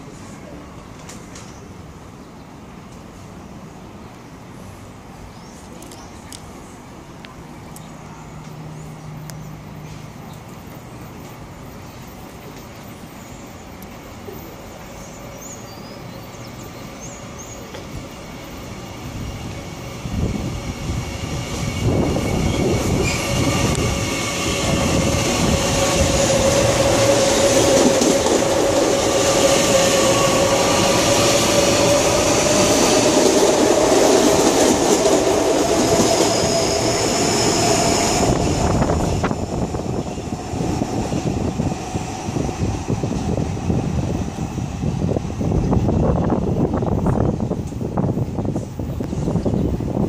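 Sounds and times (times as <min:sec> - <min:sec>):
train wheels rolling on rail: 0:00.0 - 0:50.0.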